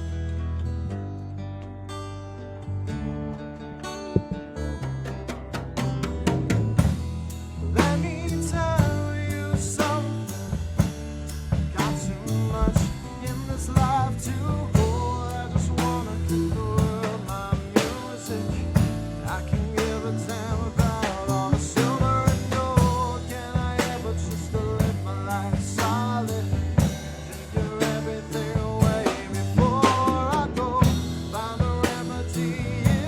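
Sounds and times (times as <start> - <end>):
live rock band instrumental: 3.9 - 33.0.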